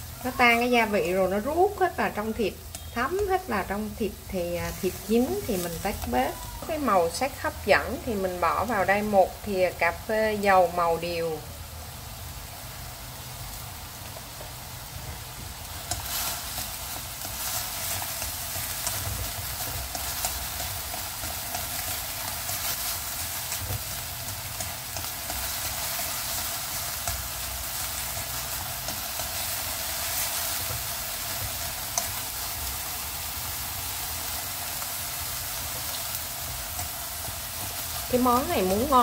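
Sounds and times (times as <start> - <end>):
meat sizzling in a pan: 0.0 - 39.0.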